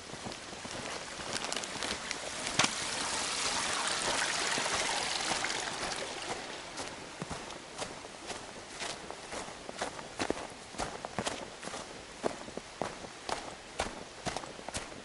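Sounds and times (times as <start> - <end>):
footsteps on path: 0.0 - 3.2, 4.9 - 15.0
stream trickling: 0.0 - 15.0.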